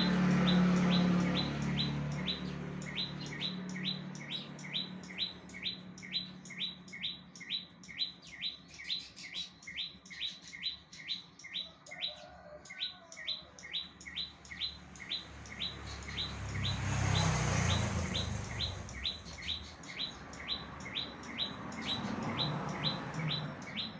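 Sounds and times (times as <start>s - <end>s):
bird chirping rapidly: 0.0s - 23.9s.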